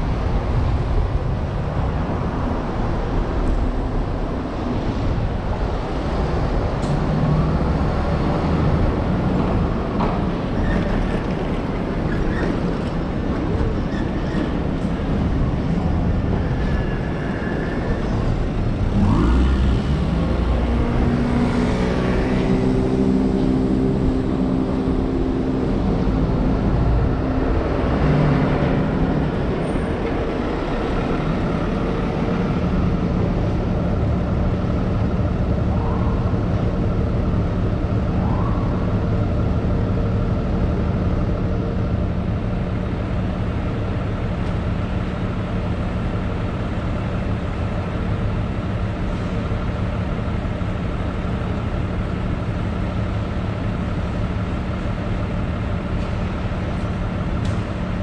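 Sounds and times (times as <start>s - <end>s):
city street traffic: 0.0s - 58.0s
heavy vehicle engine hum: 0.0s - 58.0s.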